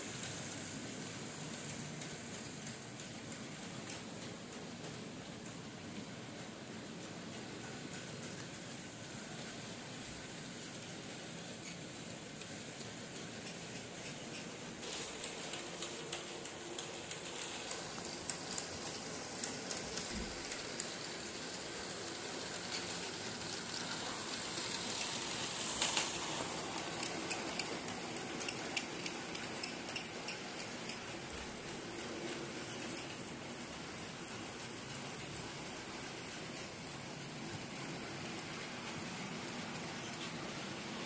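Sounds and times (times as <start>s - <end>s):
model train running on track: 0.0s - 41.0s
wheels clicking over rail joints: 0.2s - 41.0s.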